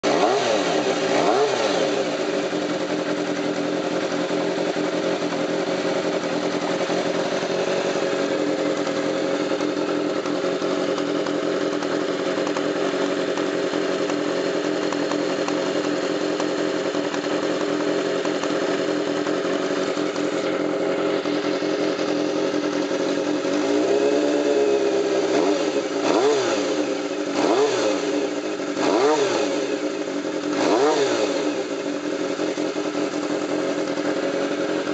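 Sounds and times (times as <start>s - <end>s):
motorcycle engine throttle blips: 0.0s - 34.9s.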